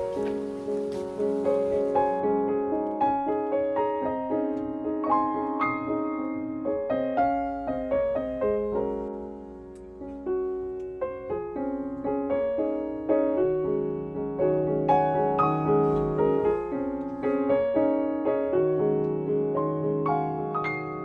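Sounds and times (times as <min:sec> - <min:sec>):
soft piano melody: 0:00.0 - 0:21.0.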